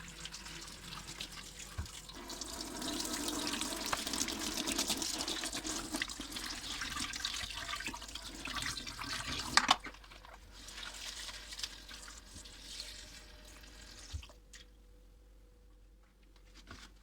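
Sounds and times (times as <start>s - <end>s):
tap water running into sink: 0.0s - 14.4s.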